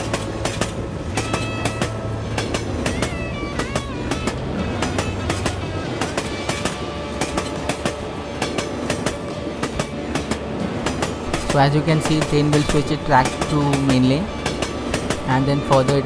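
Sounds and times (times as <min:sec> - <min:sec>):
wheel clicks over rail joints: 0:00.0 - 0:15.3
train rumble: 0:00.0 - 0:16.0.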